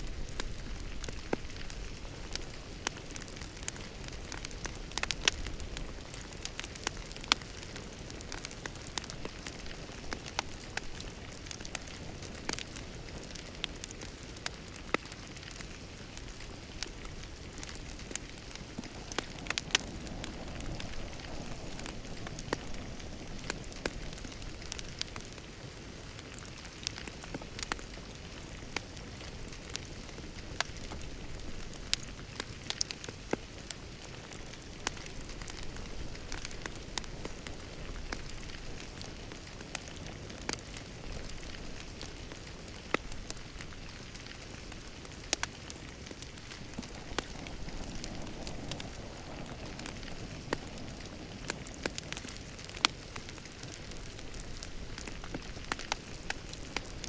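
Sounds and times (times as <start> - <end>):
low rush of burning: 0.0 - 57.0
wood fire crackling: 0.0 - 57.0.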